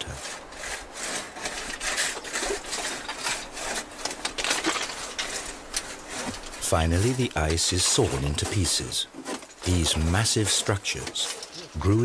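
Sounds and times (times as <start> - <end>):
hand saw cutting ice: 0.0 - 12.0.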